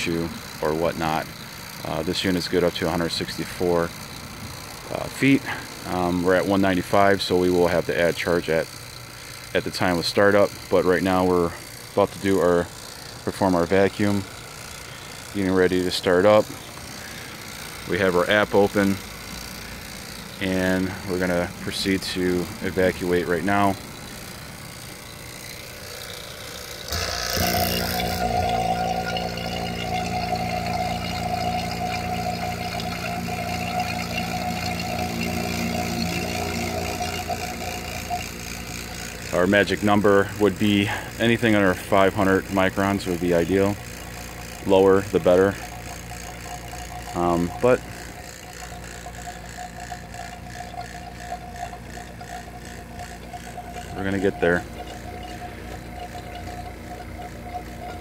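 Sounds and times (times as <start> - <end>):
vacuum pump humming: 0.0 - 58.0.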